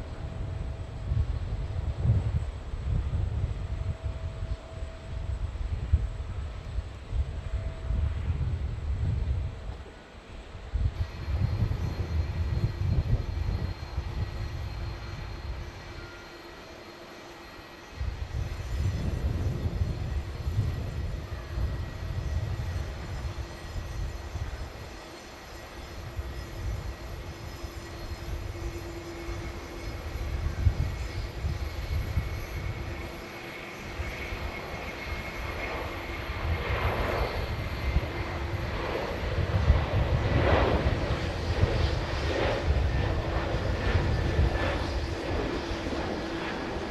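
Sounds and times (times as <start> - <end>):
airliner engines running: 0.0 - 46.9.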